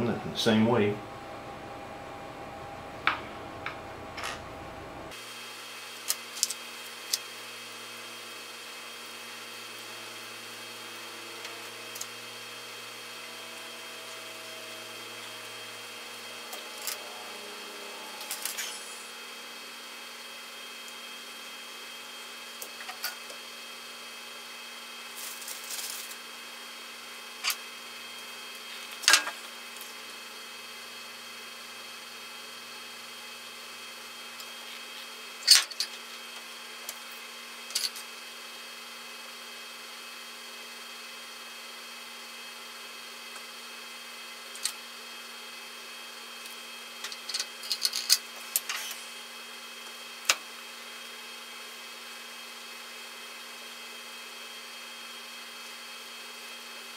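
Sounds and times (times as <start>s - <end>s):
steady electrical hum: 0.0s - 56.9s.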